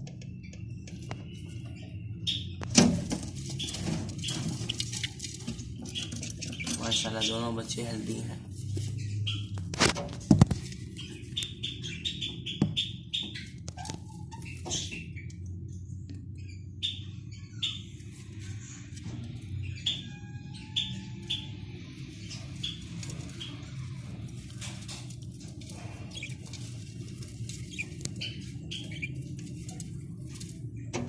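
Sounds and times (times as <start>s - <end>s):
steady low hum: 0.0s - 31.0s
chicks cheeping: 0.2s - 30.9s.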